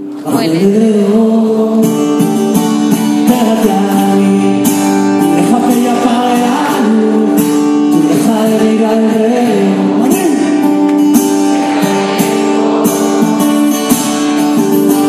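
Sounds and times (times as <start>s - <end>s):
rock band guitars: 1.8s - 15.0s.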